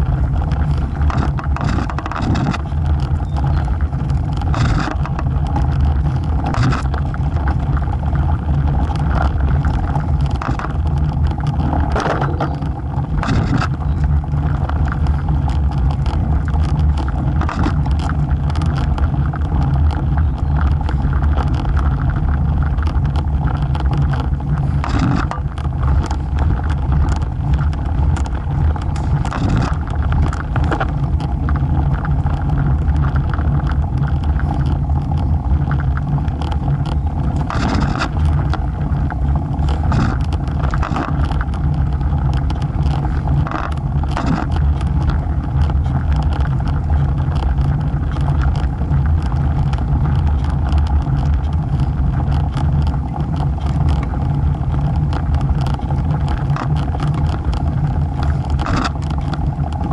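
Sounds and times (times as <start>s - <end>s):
tyres rolling on asphalt: 0.0s - 59.9s
wind rushing over microphone: 0.0s - 59.9s.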